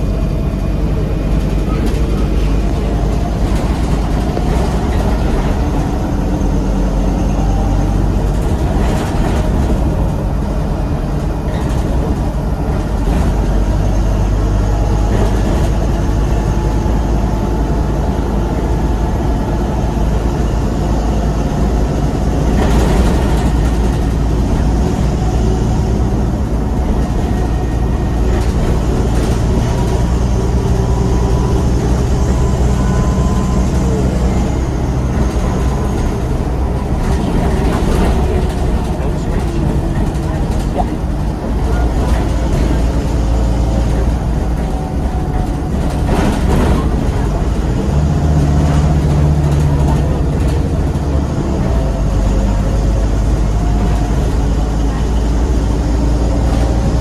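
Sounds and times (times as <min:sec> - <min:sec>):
bus engine humming: 0:00.0 - 0:57.0
road noise: 0:00.0 - 0:57.0.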